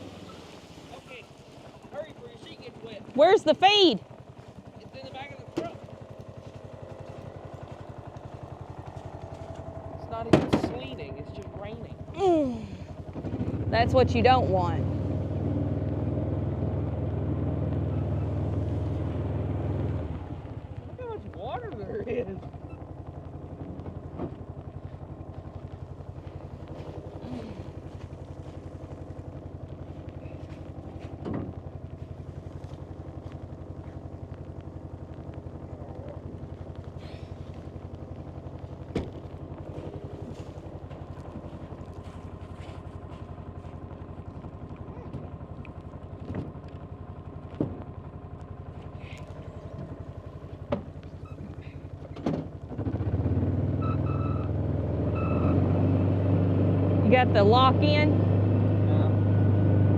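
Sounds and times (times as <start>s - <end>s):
utility cart engine running: 0.0s - 59.9s.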